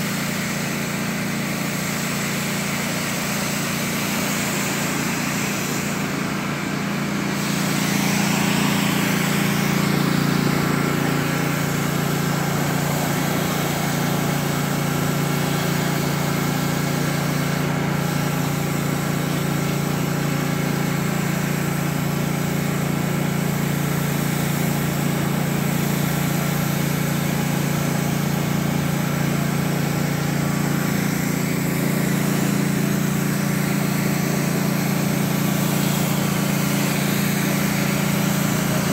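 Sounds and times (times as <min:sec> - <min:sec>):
pressure washer engine drone: 0:00.0 - 0:38.9
water jet hissing on concrete: 0:00.0 - 0:38.9.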